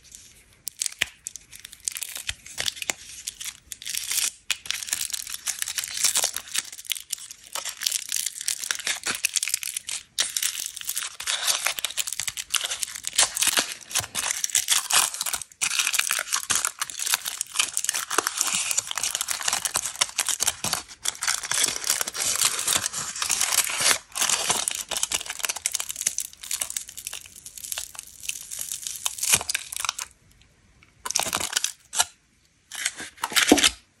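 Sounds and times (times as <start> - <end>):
foil wrapper crinkling and tearing: 0.1 - 30.2, 31.1 - 33.8.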